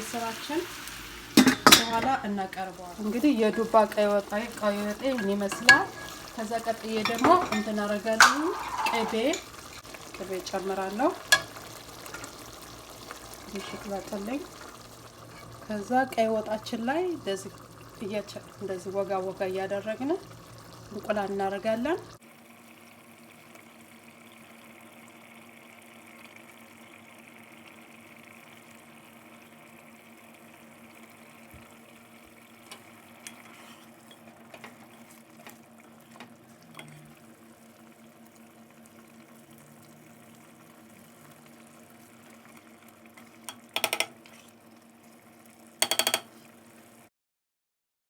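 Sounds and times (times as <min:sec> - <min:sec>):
stew simmering in a pot: 0:00.0 - 0:47.1.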